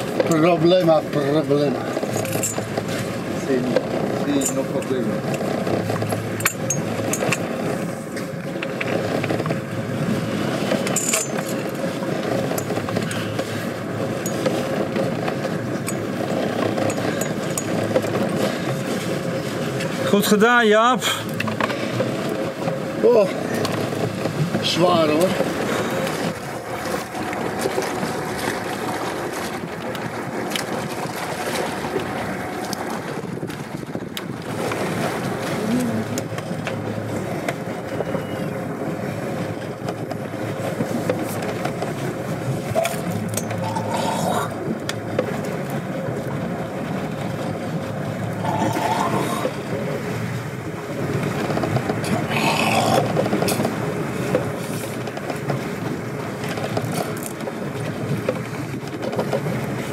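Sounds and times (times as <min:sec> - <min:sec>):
boat engine running: 0:00.0 - 0:59.9
water noise: 0:00.0 - 0:59.9
wind: 0:00.0 - 0:59.9.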